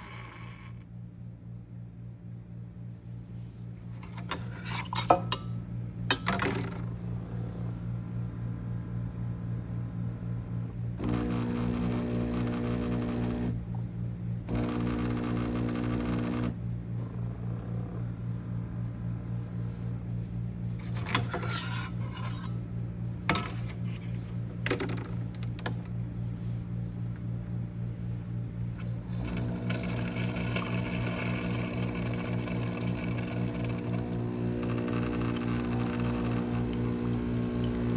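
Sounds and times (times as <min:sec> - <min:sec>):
espresso machine pulsing hum: 0:00.0 - 0:04.6, 0:05.6 - 0:37.9.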